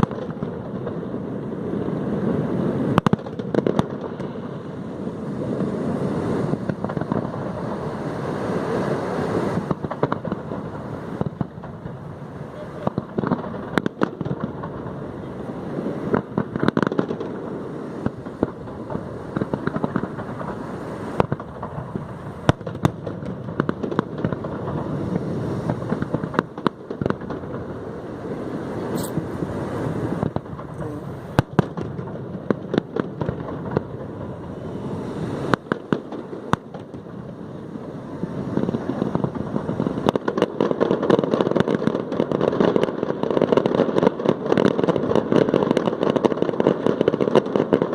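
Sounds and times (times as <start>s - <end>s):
continuous rumble: 0.0s - 41.0s
fireworks bangs and crackles: 0.0s - 47.9s.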